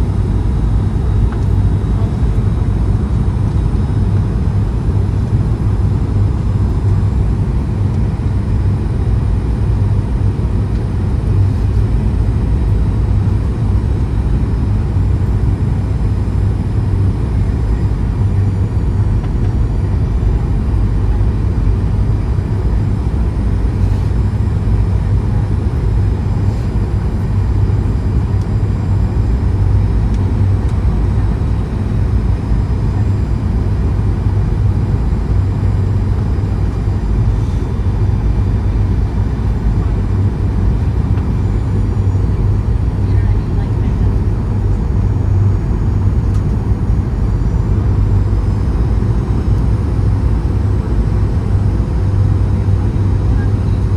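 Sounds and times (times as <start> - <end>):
airplane cabin engine rumble: 0.0 - 53.9.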